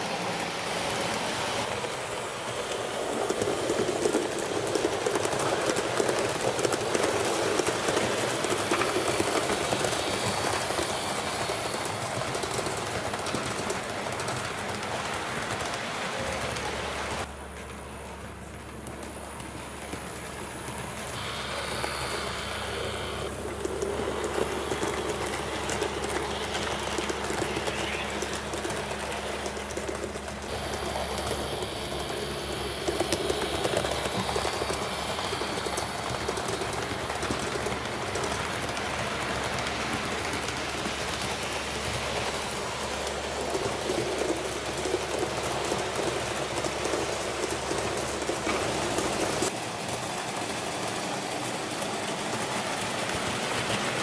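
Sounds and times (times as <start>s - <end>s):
model train wheels rattling: 0.0s - 17.7s, 18.5s - 54.0s.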